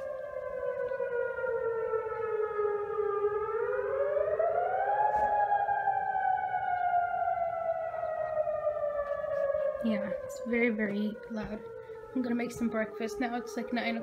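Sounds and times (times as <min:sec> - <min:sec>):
wailing warning siren: 0:00.0 - 0:14.0.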